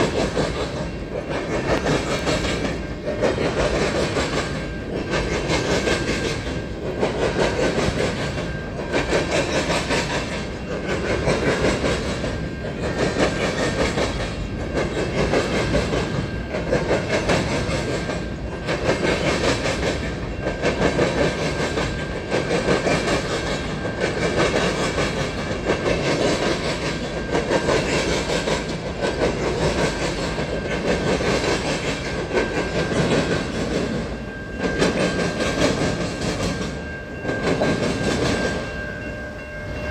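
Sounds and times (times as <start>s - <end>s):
train wheels clacking over rails: 0.0s - 39.9s.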